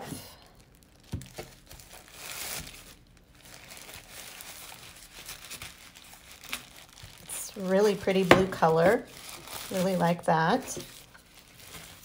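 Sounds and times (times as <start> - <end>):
plastic wrap crinkling: 0.2 - 12.0.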